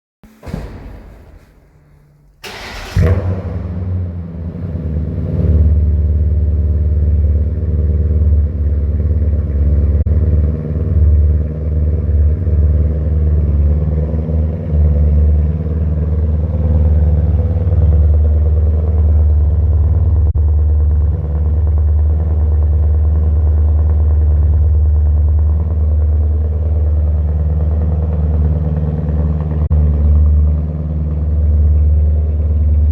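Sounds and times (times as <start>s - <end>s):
car engine starting and idling: 0.3s - 32.9s.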